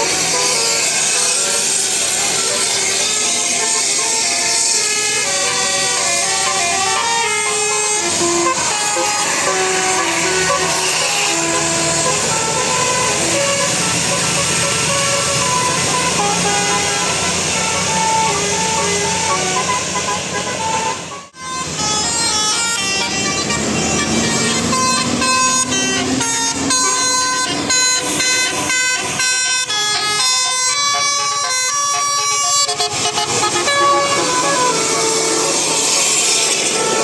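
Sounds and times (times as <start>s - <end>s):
bus air horn playing a tune: 0.0s - 37.0s
vehicle engine noise: 0.0s - 37.0s.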